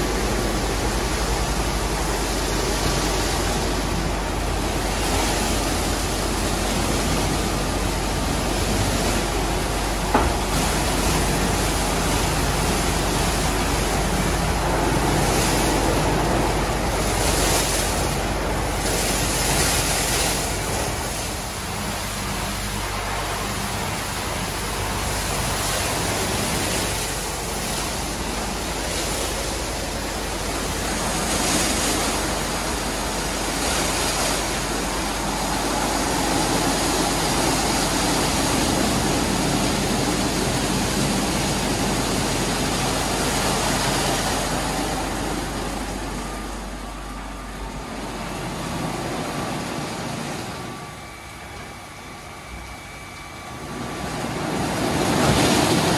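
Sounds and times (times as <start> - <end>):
car wash brushes and water spray: 0.0 - 51.8.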